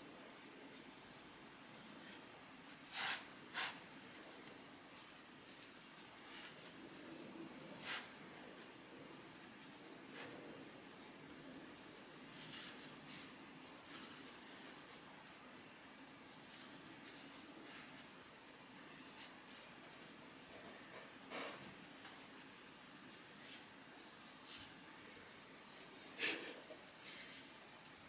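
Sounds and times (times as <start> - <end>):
hands rubbing and tapping dough: 0.0 - 25.7.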